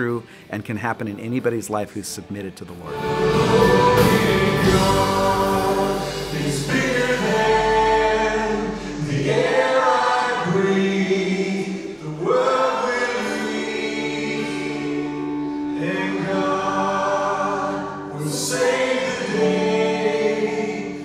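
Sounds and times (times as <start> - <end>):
voices singing worship song: 2.9 - 21.0.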